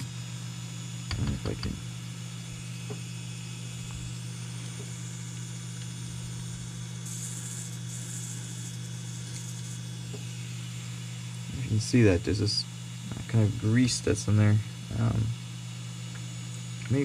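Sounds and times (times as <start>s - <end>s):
model locomotive motor humming: 0.0s - 17.0s.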